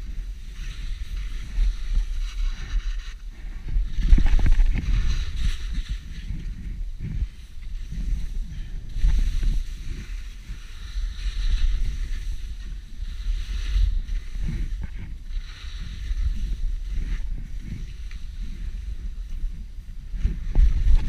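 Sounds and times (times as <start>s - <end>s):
skis scraping on snow: 0.0s - 21.0s
wind buffeting microphone: 0.0s - 21.0s.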